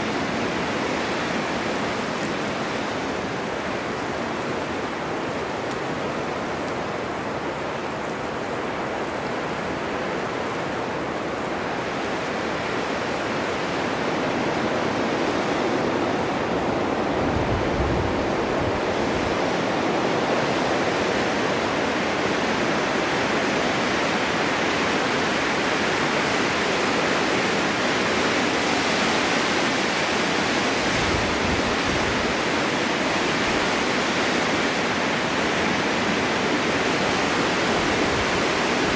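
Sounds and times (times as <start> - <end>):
low rumbles of wind gusts: 0.0 - 38.9
snowstorm wind blowing: 0.0 - 38.9.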